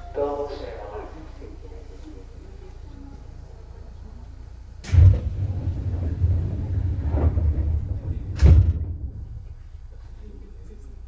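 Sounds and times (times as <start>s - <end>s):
low rumble of train: 0.0s - 11.0s.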